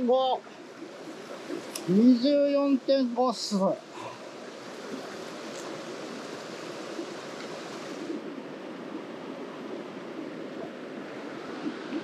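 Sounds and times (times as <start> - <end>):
stream flowing water: 0.0 - 12.0.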